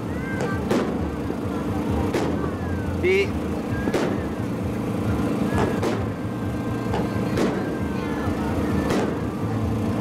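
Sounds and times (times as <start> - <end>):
fireworks bursting: 0.0 - 10.0
steady low hum: 0.0 - 10.0.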